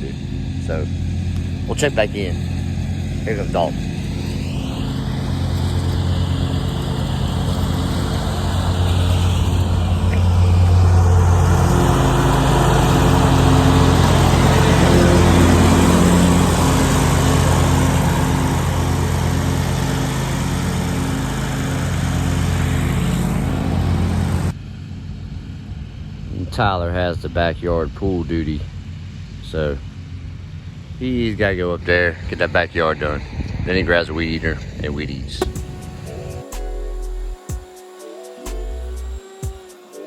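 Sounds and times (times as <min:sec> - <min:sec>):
lawn mower engine running: 0:00.0 - 0:26.3, 0:28.7 - 0:31.3, 0:35.4 - 0:40.0.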